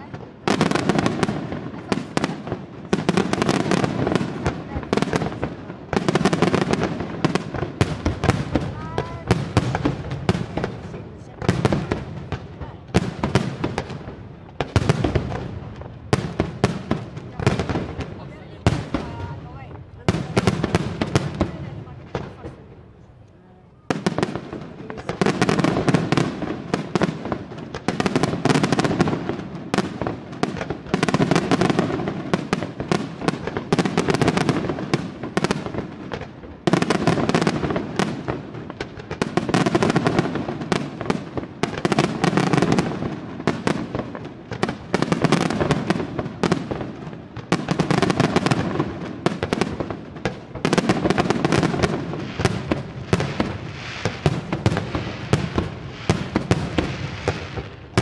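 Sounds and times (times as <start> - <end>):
fireworks bursts and crackle: 0.0 - 58.0.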